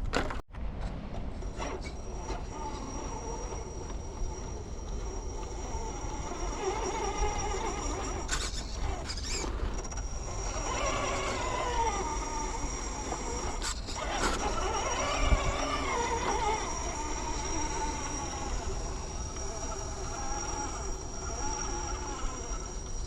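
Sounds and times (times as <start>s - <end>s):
electric motor and gears whining: 1.2s - 23.0s.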